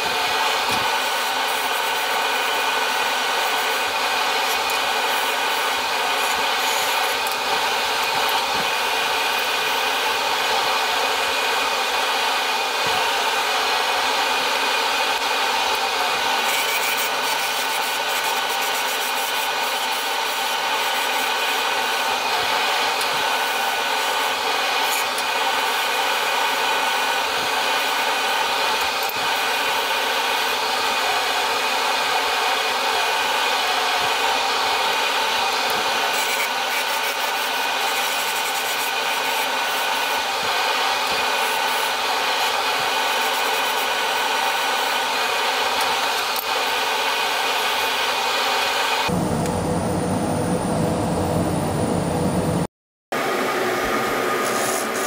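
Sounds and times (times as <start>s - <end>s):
turning tool cutting wood: 0.0s - 49.2s
lathe running: 0.0s - 52.6s
dust extractor running: 0.0s - 55.0s.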